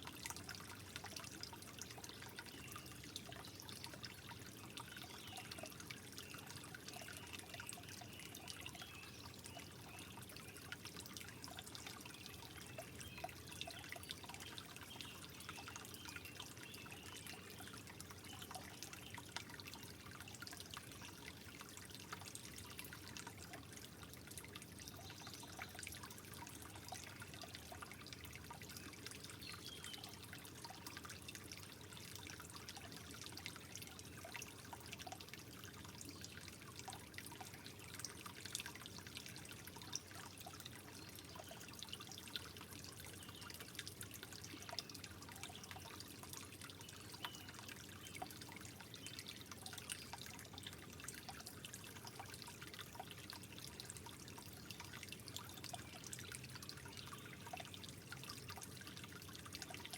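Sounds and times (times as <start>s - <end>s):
water drips and plinks: 0.0s - 59.9s
water trickling: 0.0s - 59.9s.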